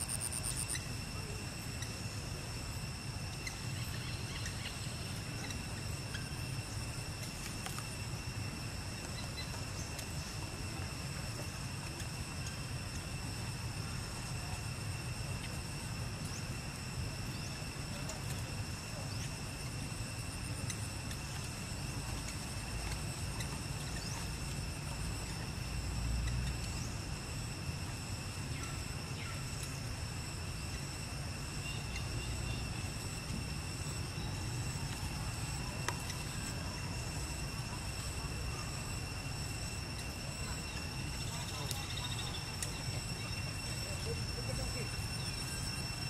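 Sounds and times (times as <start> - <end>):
faint chirps: 0.0 - 46.0.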